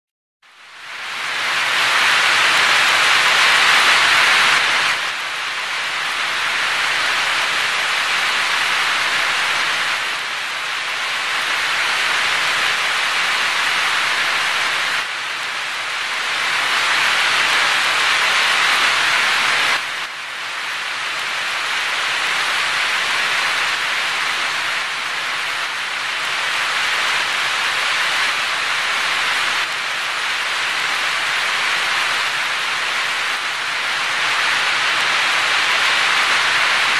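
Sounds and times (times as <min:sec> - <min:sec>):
heavy rain splashing on wet ground: 0:00.5 - 0:36.9.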